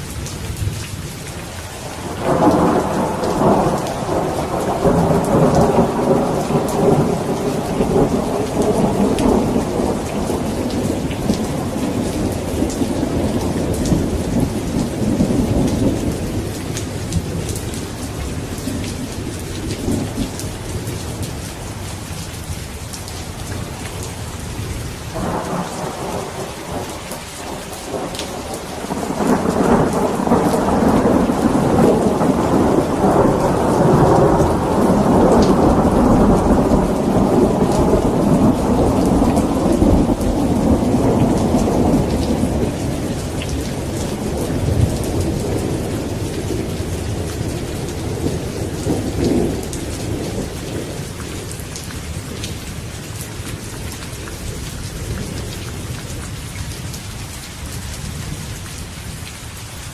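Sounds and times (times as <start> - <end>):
steady rain: 0.0 - 59.9
rolling thunder: 2.0 - 21.9, 23.1 - 52.5.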